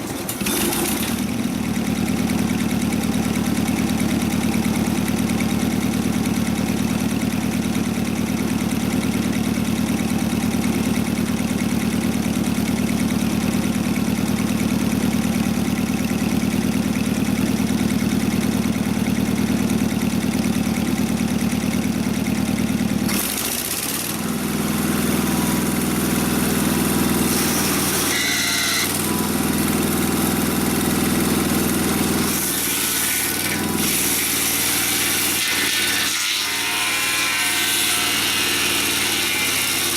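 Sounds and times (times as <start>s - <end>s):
gasoline engine running: 0.0s - 32.4s.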